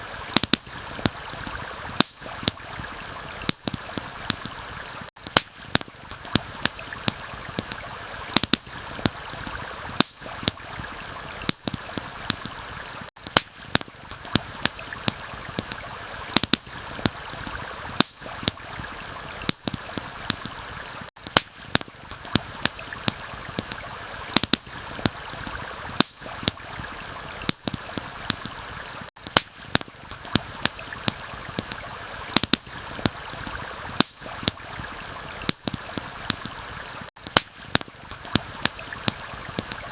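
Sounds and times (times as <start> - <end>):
campfire crackling and popping: 0.0 - 39.9
stream water flowing: 0.0 - 39.9.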